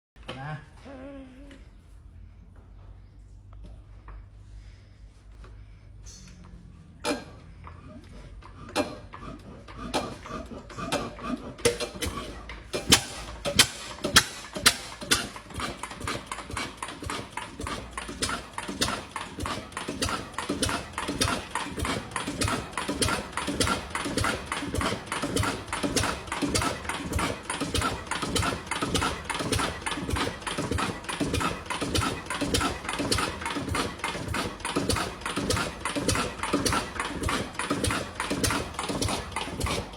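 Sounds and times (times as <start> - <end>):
old engine starting and running: 3.6 - 39.9.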